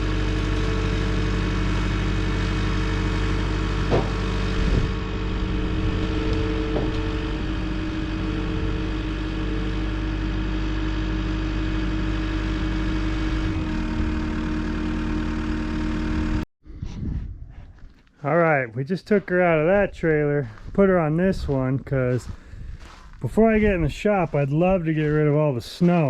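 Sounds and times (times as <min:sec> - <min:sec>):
diesel engine running: 0:00.0 - 0:16.5, 0:19.1 - 0:26.0.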